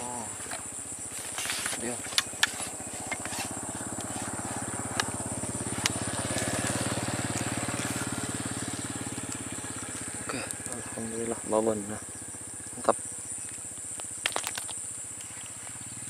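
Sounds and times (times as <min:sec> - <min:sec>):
high insect drone: 0:00.0 - 0:16.0
small engine puttering: 0:00.0 - 0:16.0.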